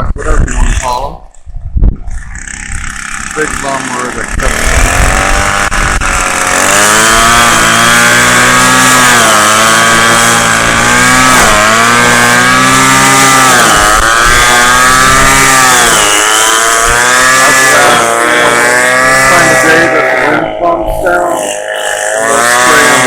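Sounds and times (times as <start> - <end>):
string trimmer engine cutting: 0.2 - 1.4, 2.0 - 23.0.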